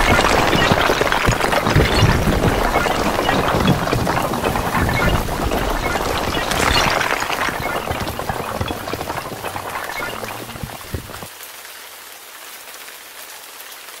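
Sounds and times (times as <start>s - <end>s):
faint crackling hiss: 0.0s - 11.3s
small blocks clattering down: 0.0s - 11.3s.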